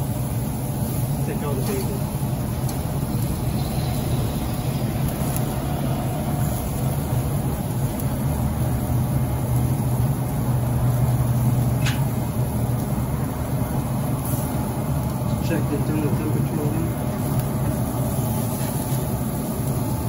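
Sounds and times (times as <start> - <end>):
combustion fan humming: 0.0 - 20.0.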